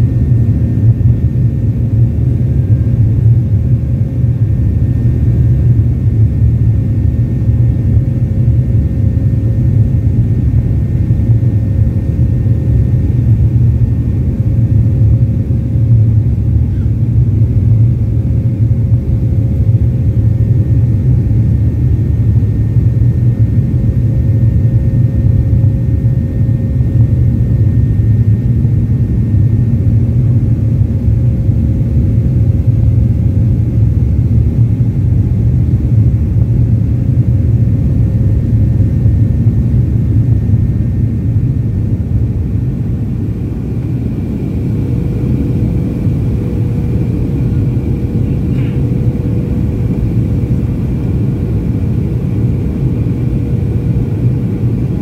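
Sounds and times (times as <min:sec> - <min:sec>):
faint engine whine: 0:00.0 - 0:55.0
jet engine rumble: 0:00.0 - 0:55.0.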